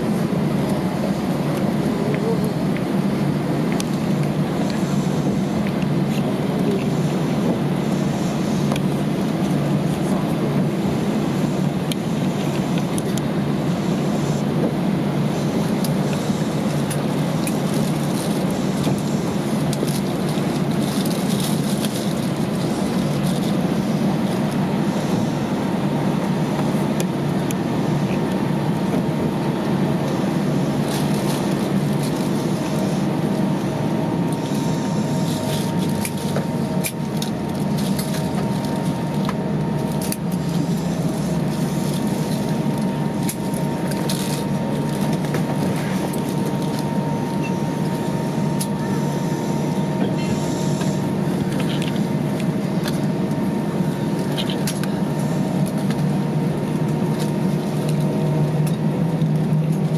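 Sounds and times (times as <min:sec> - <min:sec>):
airplane cabin hum: 0:00.0 - 0:59.9
faint steady whine: 0:00.0 - 0:59.9.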